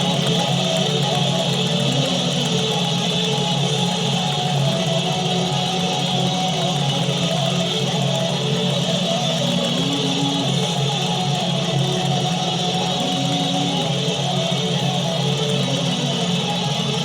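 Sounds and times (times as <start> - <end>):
steady low drone: 0.0 - 17.0.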